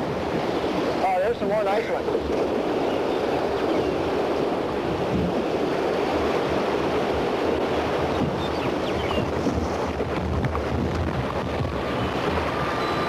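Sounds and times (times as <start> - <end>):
river rapid rushing: 0.0 - 13.0.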